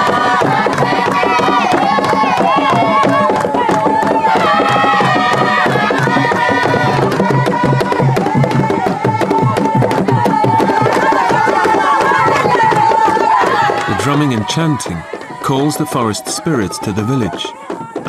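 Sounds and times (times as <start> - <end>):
fast hand drumming: 0.0 - 18.0
group chanting: 0.0 - 18.0.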